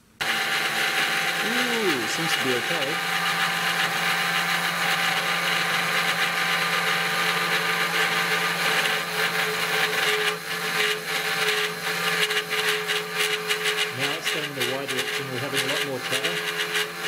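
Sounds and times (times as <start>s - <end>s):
cnc spindle motor whine: 0.2s - 17.0s.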